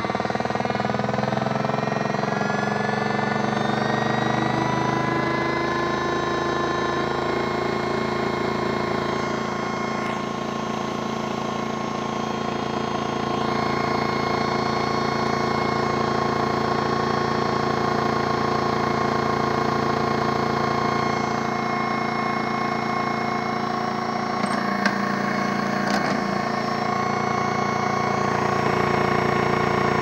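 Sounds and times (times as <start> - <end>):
toy washing machine motor whine: 0.0 - 30.0.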